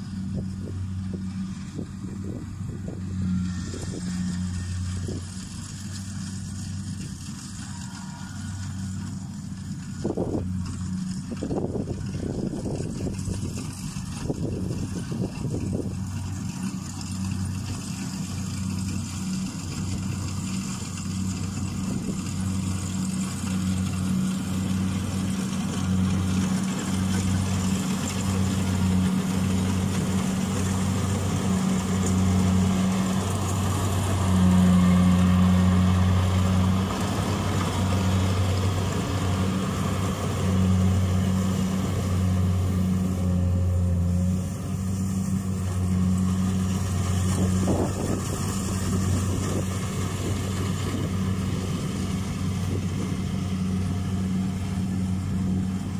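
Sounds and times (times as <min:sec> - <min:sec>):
combine harvester engine humming: 0:00.0 - 0:55.9.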